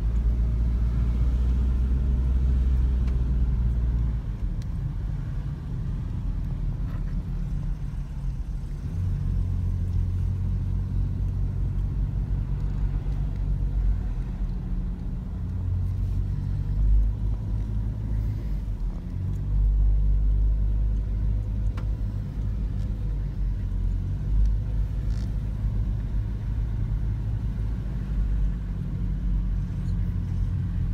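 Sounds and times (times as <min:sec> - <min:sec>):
car engine rumble: 0:00.0 - 0:30.9.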